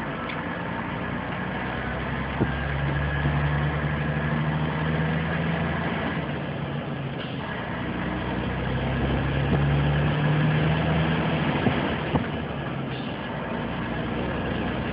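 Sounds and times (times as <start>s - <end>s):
road and air noise: 0.0s - 14.9s
truck diesel engine drone: 0.0s - 14.9s.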